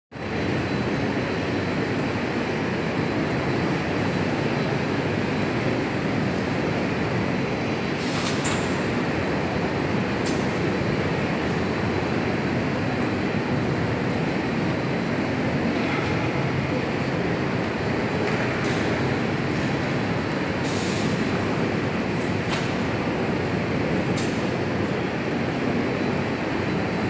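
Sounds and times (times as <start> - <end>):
conveyor belt rolling: 0.2 - 27.0.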